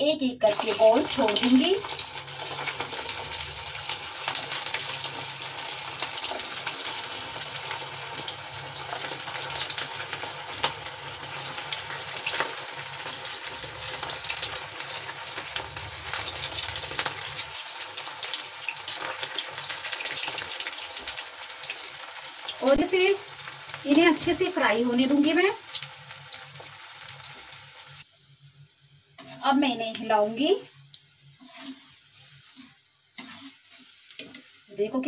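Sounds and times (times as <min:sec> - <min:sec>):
food deep-frying in oil: 0:00.0 - 0:35.0.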